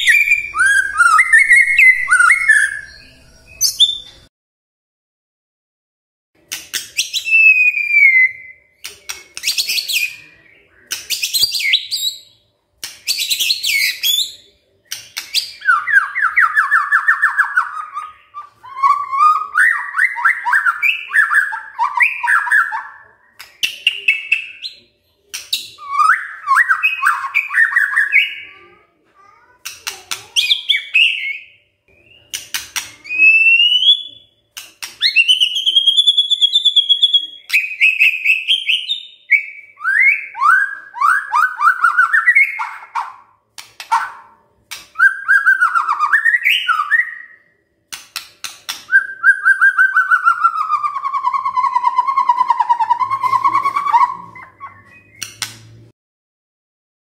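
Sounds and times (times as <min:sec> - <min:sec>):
bird singing varied song: 0:00.0 - 0:04.3, 0:06.7 - 0:28.8, 0:29.7 - 0:43.3, 0:43.9 - 0:47.6, 0:48.7 - 0:55.8.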